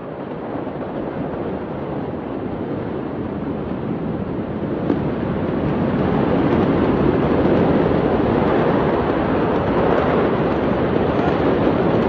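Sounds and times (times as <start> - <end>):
distant city noise: 0.0 - 12.0
wind noise on microphone: 0.0 - 12.0.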